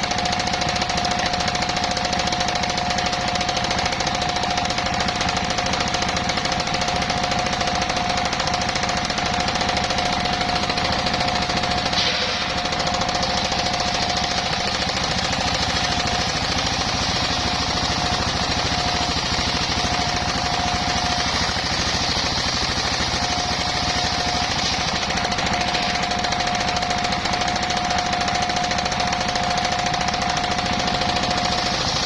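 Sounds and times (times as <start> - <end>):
engine-driven circular saw running: 0.0 - 32.0.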